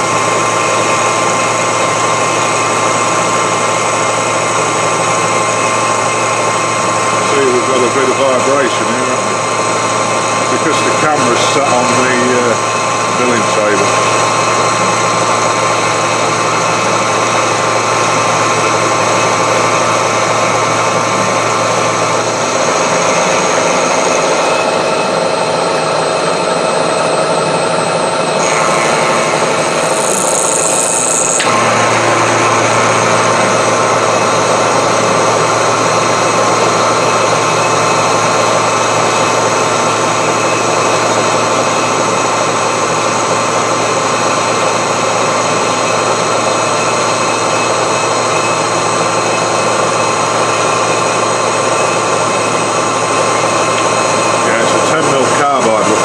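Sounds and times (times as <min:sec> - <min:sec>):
milling machine whine: 0:00.0 - 0:56.0.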